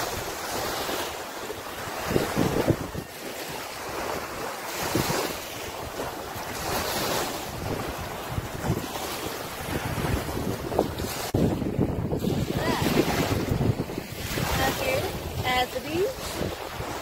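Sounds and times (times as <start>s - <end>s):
small waves washing on sand: 0.0s - 17.0s
wind buffeting microphone: 0.0s - 17.0s.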